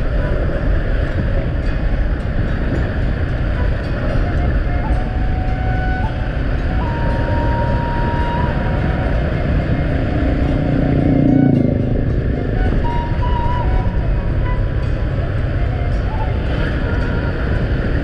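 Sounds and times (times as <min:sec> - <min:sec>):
road noise: 0:00.0 - 0:18.0
wind noise: 0:00.0 - 0:18.0.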